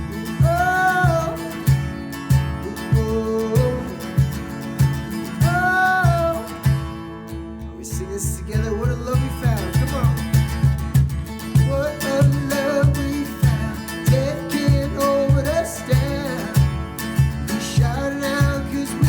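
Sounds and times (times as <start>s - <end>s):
song with guitar and beat: 0.0s - 19.0s.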